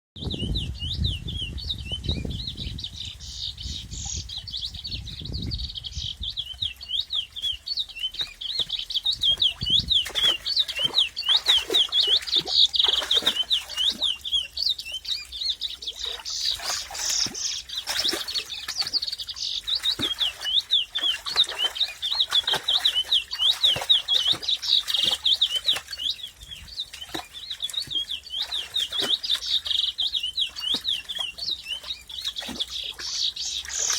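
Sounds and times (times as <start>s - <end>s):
small birds chirping: 0.2s - 33.9s.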